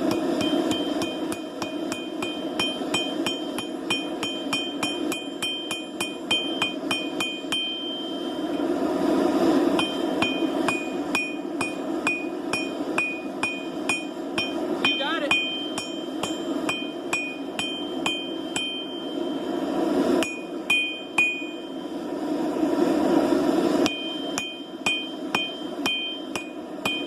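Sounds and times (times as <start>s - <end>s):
hammer striking metal on anvil: 0.0s - 8.6s, 9.8s - 19.4s, 20.2s - 21.7s, 23.8s - 27.0s
low rushing background: 0.0s - 27.0s
rushing noise: 0.0s - 27.0s.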